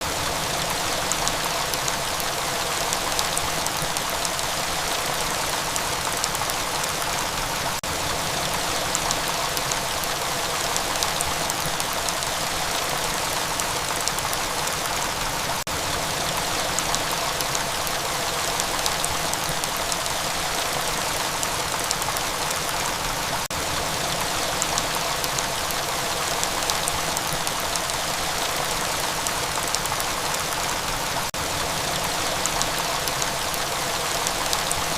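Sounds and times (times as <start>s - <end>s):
steady rain hiss: 0.0s - 34.9s
raindrops ticking: 0.2s - 34.9s.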